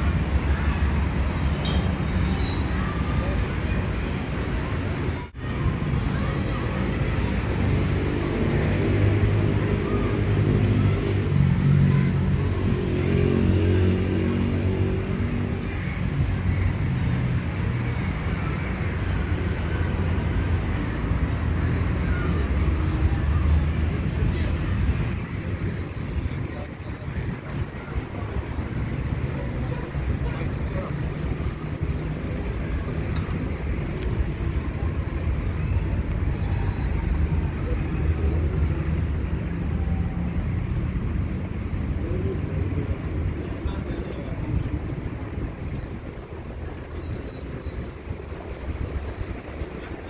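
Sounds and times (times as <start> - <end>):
vehicle engine rumble: 0.0 - 50.0.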